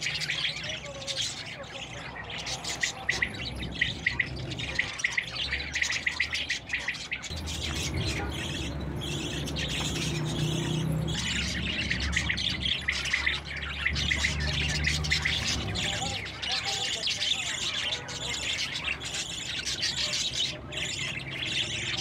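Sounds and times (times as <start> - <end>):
budgerigars chattering: 0.0 - 22.0.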